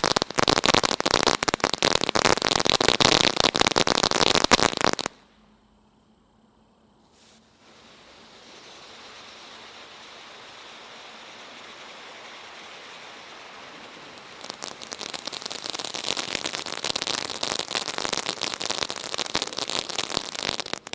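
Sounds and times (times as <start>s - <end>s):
firework crackling: 0.0s - 5.3s, 7.2s - 20.9s
firework fountain hissing: 0.0s - 5.5s, 7.1s - 20.9s.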